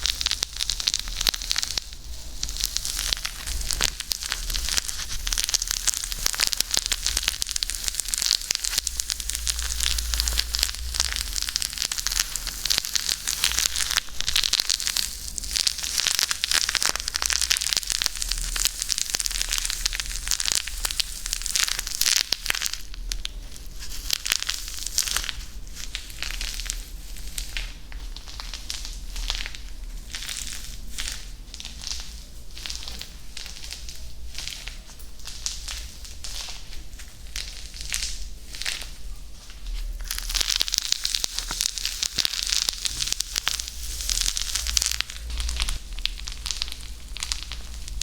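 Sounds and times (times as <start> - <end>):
fast crackling clicks: 0.0 - 48.0.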